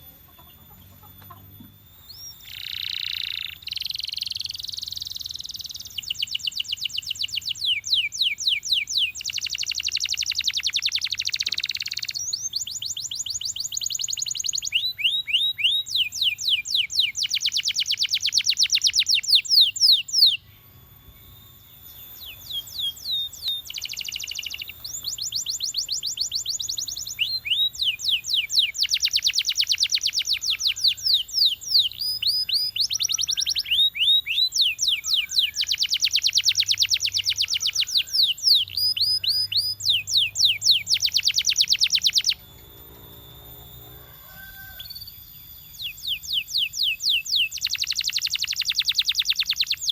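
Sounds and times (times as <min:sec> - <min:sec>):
canary trilling: 0:02.1 - 0:20.6, 0:21.8 - 0:49.9.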